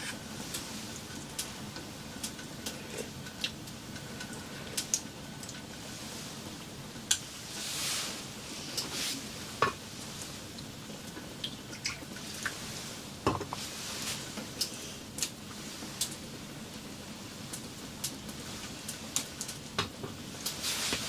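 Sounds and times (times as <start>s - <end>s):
steady hiss: 0.0s - 11.5s, 12.1s - 21.0s.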